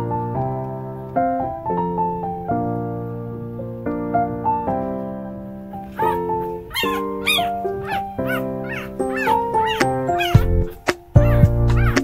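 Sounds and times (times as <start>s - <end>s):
soft solo piano: 0.0s - 12.0s.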